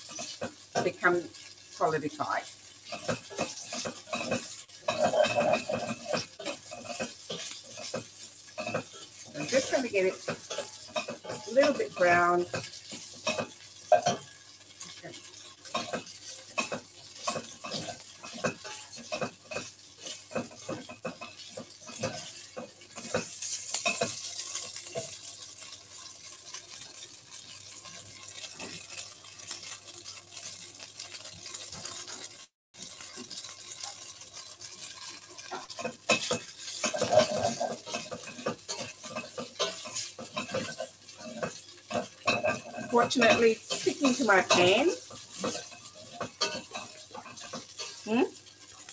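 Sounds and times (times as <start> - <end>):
tofu sizzling in oil: 0.0 - 48.9
utensil scraping a pan: 0.0 - 48.9.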